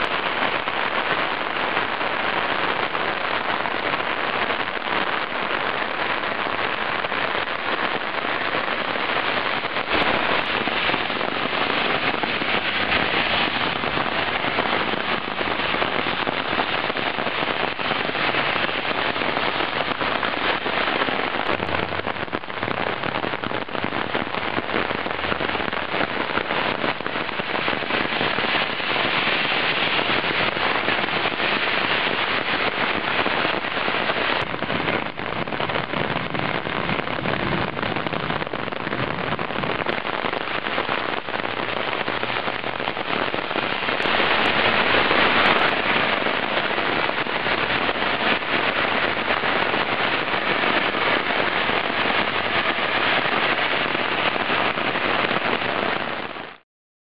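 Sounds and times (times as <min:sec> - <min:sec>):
heavy rain falling: 0:00.0 - 0:56.6.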